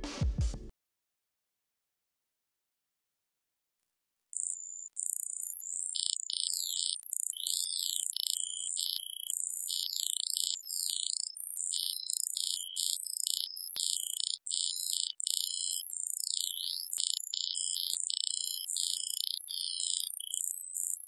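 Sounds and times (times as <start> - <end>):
high-pitched electronic noise: 3.8 - 21.0.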